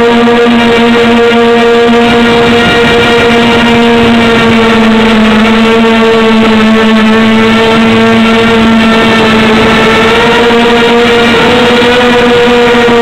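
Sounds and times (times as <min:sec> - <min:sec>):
quadcopter motors humming: 0:00.0 - 0:13.0.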